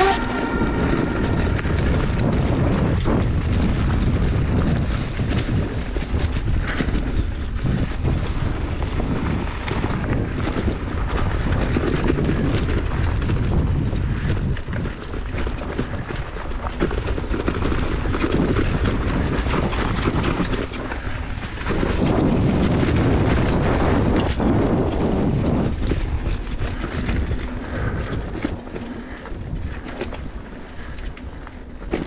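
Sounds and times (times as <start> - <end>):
bike rumble on rough trail: 0.0 - 32.0
wind on microphone: 0.0 - 32.0.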